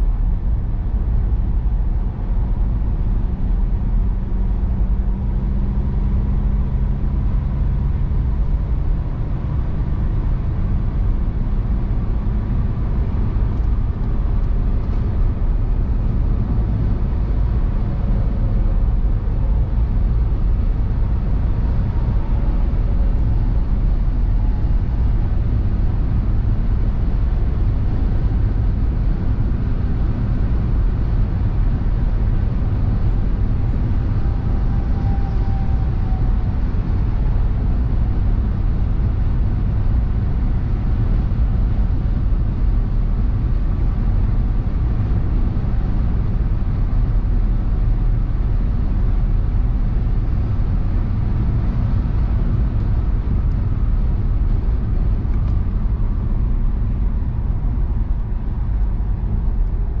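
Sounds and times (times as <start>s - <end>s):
engine hum: 0.0s - 60.0s.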